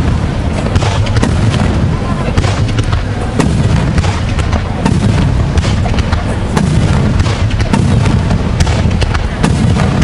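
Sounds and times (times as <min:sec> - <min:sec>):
deep firework booming: 0:00.0 - 0:10.0
firework cracks and crackles: 0:00.0 - 0:10.0.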